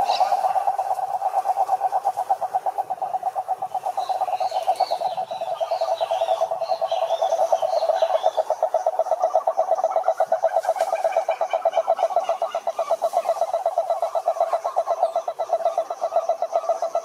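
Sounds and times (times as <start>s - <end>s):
frog pulsed trill: 0.0s - 17.0s
higher rising and falling frog calls: 0.0s - 17.0s.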